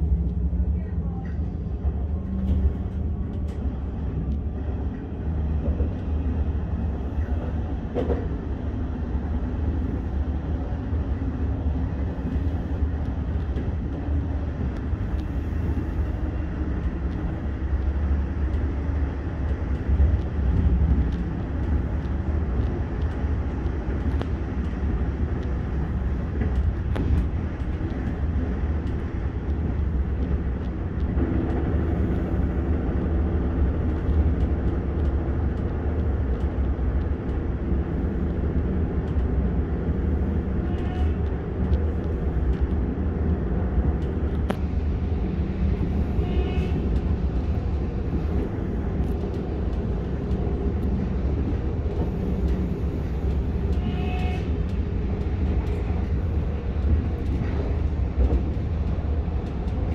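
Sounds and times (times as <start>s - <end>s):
train rumbling inside carriage: 0.0s - 59.9s.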